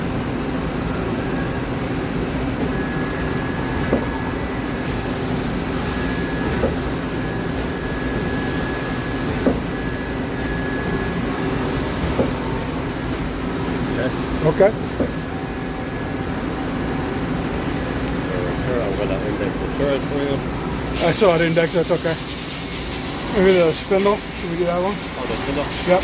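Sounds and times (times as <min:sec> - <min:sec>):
machine hum with high whine: 0:00.0 - 0:26.0.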